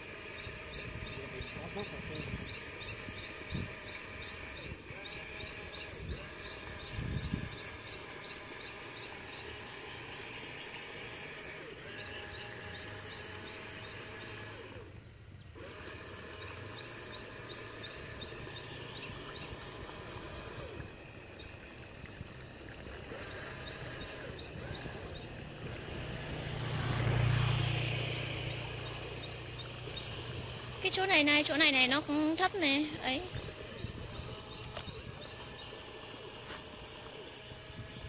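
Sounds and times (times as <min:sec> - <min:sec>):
electric motors whining: 0:00.0 - 0:38.0
wheels splashing through water: 0:00.0 - 0:38.0.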